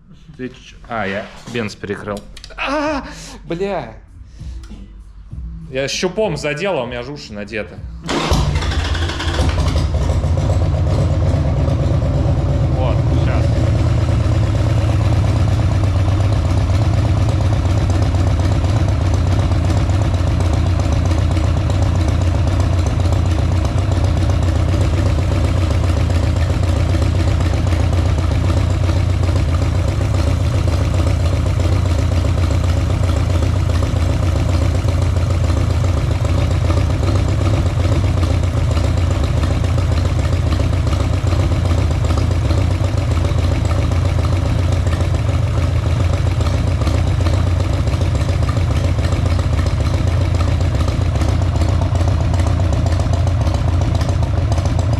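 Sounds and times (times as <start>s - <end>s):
motorcycle engine idling: 8.1s - 54.9s.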